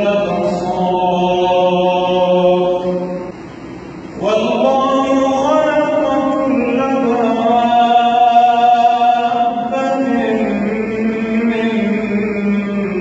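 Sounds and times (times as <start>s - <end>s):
man chanting melodically: 0.0s - 3.3s, 4.1s - 13.0s.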